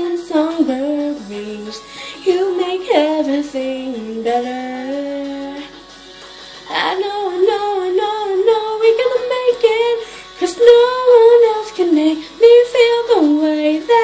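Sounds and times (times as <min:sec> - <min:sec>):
woman singing pop melody: 0:00.0 - 0:14.0.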